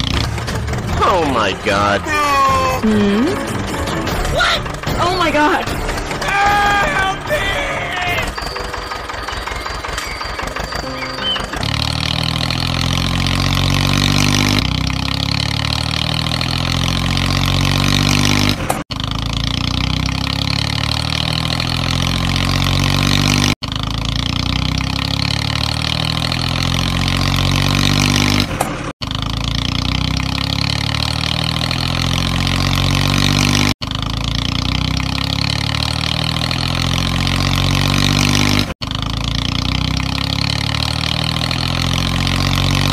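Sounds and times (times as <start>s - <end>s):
tractor engine: 0.0s - 42.9s.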